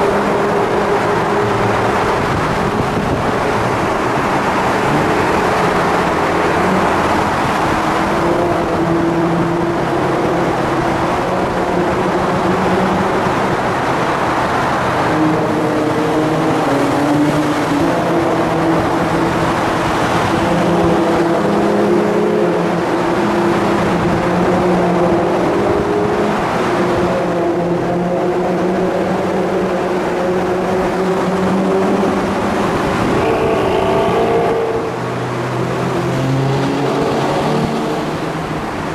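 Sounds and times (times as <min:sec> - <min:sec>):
sports car engines echoing in tunnel: 0:00.0 - 0:38.9.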